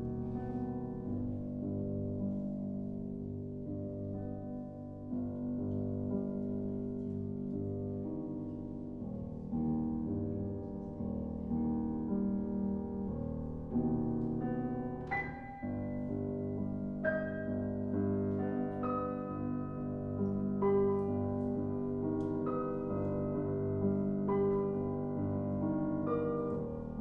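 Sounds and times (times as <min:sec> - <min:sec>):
chamber music with piano: 0:00.0 - 0:27.0.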